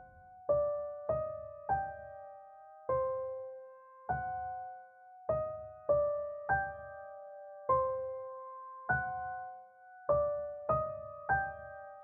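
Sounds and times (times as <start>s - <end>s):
slow piano-like keyboard melody: 0.0s - 12.0s.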